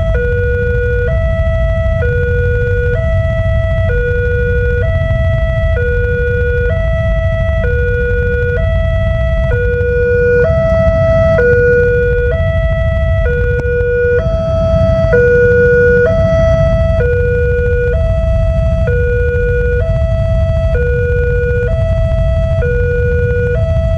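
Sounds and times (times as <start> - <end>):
low rumble: 0.0 - 23.9
two-tone electronic warning alarm: 0.0 - 23.9.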